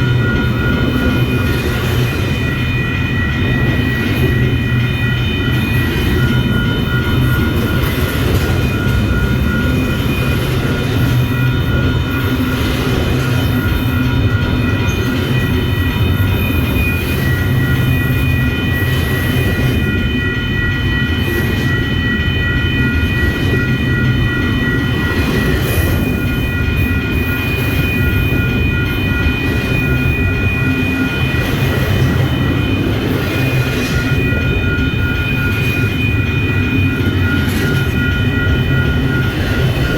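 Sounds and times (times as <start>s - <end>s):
high-pitched whine: 0.0s - 39.9s
train wheels rumbling on rail: 0.0s - 39.9s.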